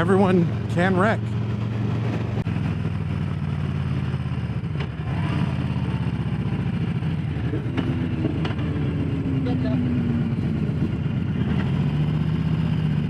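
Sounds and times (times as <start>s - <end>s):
higher engine note: 0.0s - 13.0s
motorcycle engine running: 0.0s - 13.0s.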